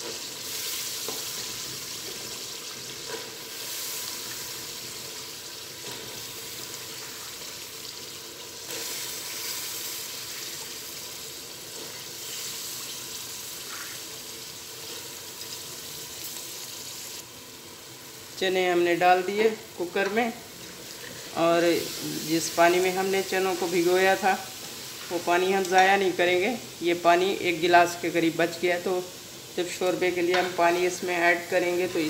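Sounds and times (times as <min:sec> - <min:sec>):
chickpeas sizzling in hot oil: 0:00.0 - 0:32.0.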